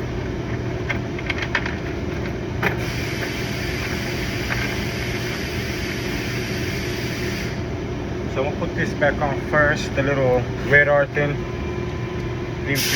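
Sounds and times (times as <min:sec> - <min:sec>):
low mechanical hum: 0:00.0 - 0:12.9.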